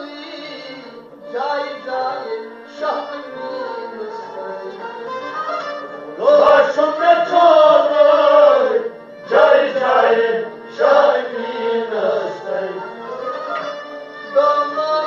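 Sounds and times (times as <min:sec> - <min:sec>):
sustained musical accompaniment: 0:00.0 - 0:15.0.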